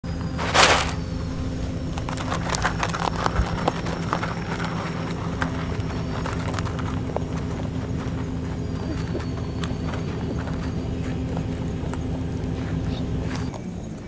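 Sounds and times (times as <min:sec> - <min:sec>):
rustling: 0:00.0 - 0:13.5
low steady hum: 0:00.0 - 0:14.0
rabbits crunching dry food: 0:00.0 - 0:14.0.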